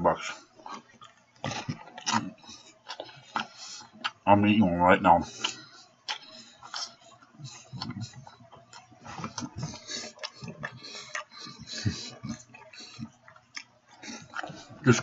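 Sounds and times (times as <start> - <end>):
man chewing and biting sandwich: 0.2 - 4.2, 5.2 - 15.0.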